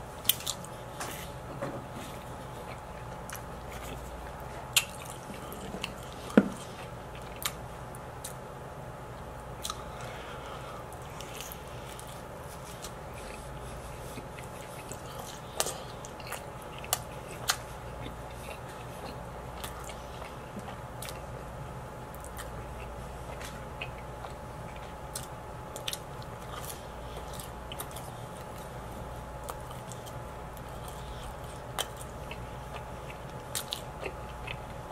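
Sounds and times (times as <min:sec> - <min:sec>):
faint hum: 0:00.0 - 0:34.9
chewing and biting food: 0:00.2 - 0:01.4, 0:02.0 - 0:08.4, 0:09.6 - 0:34.9.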